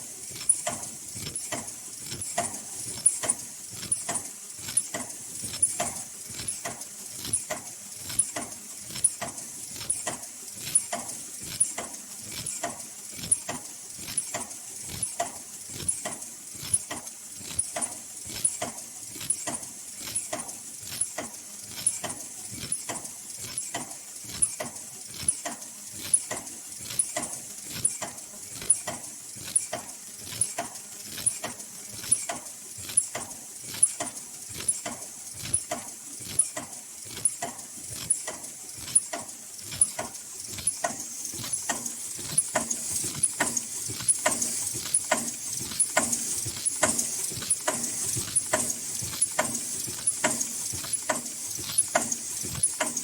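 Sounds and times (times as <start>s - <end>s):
production machine clicking and clacking: 0.0s - 53.0s.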